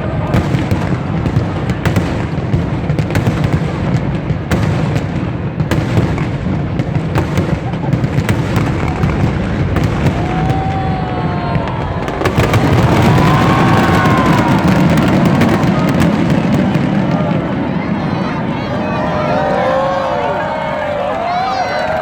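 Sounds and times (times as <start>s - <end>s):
fireworks booms and crackling bangs: 0.0s - 22.0s
whistling fireworks: 0.0s - 22.0s.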